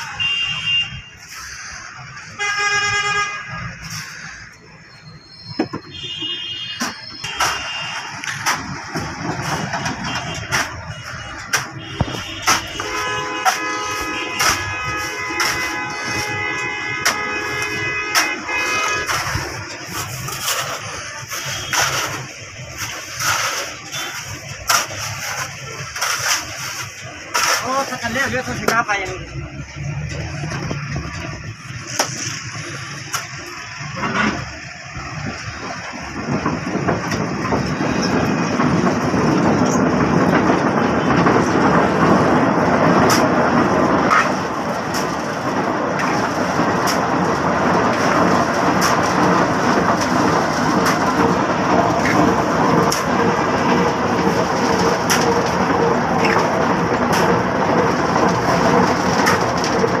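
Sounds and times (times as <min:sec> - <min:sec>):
concrete rumbling in turning mould: 0:06.7 - 1:00.0.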